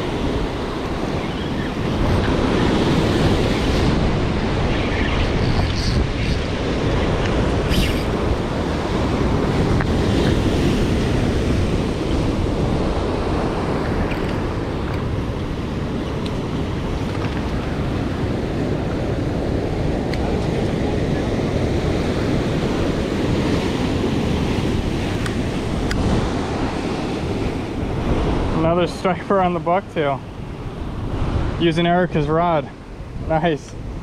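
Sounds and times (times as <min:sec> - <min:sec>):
wind buffeting microphone: 0:00.0 - 0:28.8.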